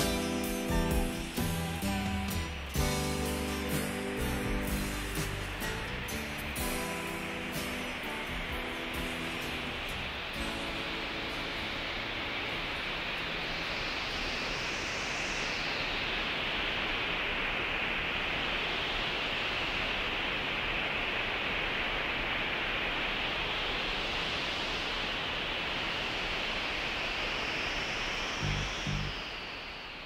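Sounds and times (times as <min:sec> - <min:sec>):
wind whooshing hiss: 0:00.0 - 0:30.0.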